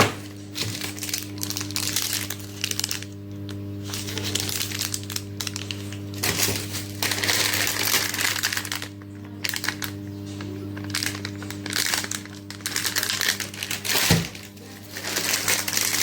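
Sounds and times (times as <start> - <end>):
steady low hum: 0.0 - 16.0
packet crinkling and rustling: 0.2 - 16.0.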